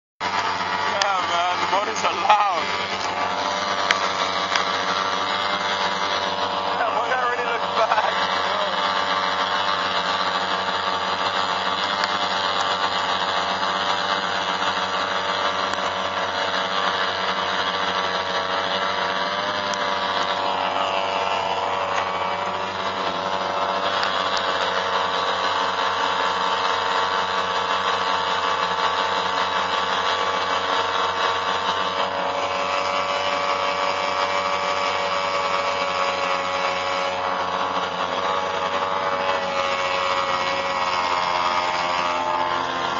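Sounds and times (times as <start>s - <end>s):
outboard motors buzzing: 0.0s - 42.9s.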